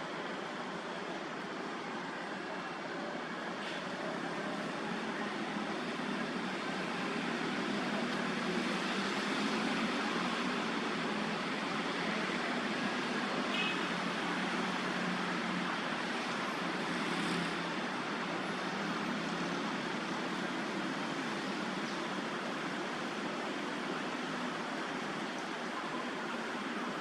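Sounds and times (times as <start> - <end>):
distant city traffic hiss: 0.0 - 27.0.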